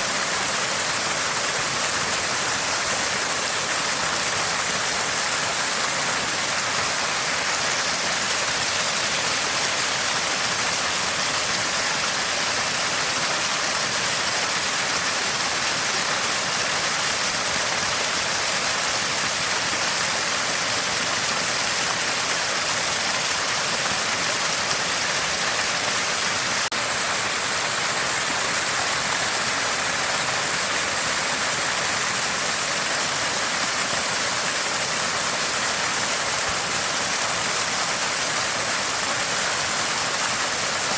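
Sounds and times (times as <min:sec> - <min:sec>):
spring water gushing and gurgling: 0:00.0 - 0:40.9.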